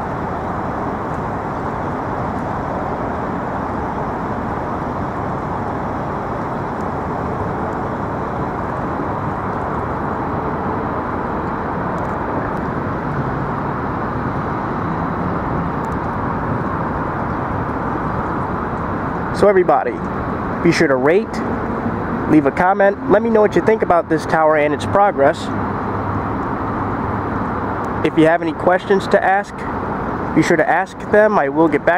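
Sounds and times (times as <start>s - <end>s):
outdoor background roar: 0.0s - 31.9s.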